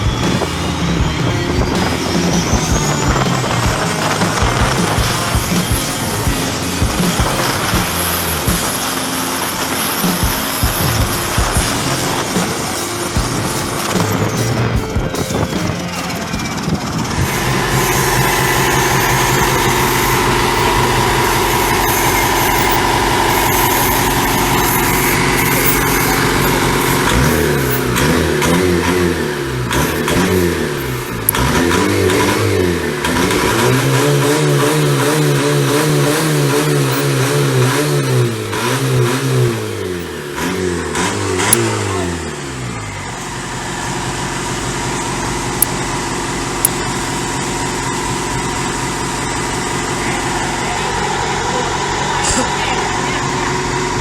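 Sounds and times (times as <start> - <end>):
boat diesel engine revving: 0.0 - 54.0.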